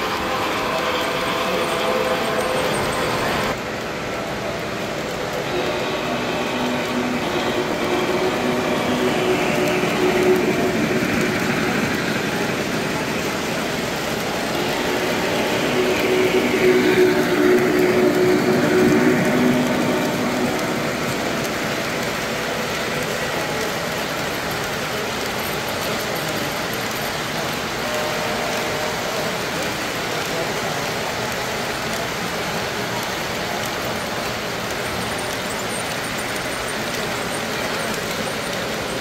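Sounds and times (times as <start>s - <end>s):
model trains rumbling: 0.0s - 39.0s.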